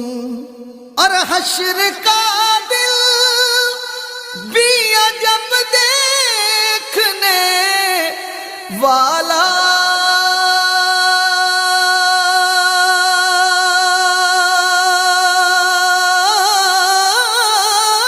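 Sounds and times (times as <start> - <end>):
person singing: 0.0 - 18.0.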